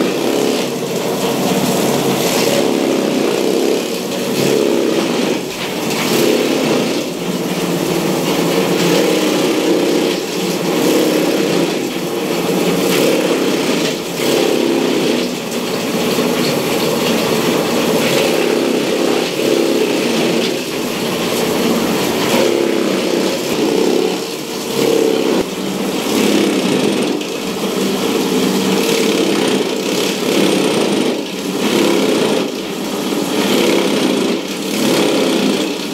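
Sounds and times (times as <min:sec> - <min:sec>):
blades chopping dry straw: 0:00.0 - 0:35.9
chaff cutter motor drone: 0:00.0 - 0:35.9.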